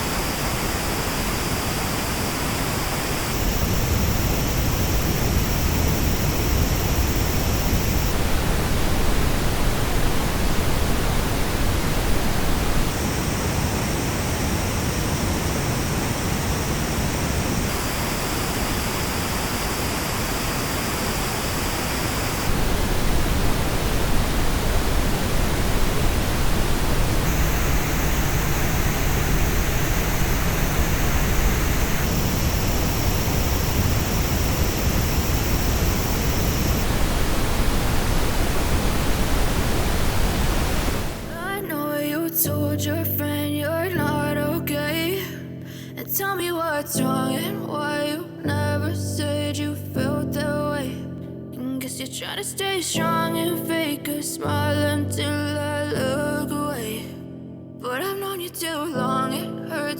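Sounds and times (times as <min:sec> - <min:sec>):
pink noise hiss: 0:00.0 - 0:50.4.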